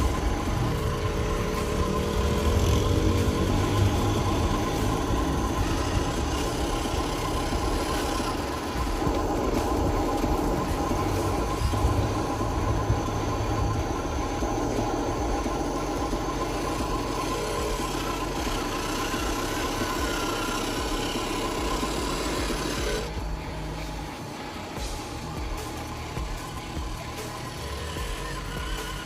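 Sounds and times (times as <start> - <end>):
model truck engine idling: 0.0 - 29.0.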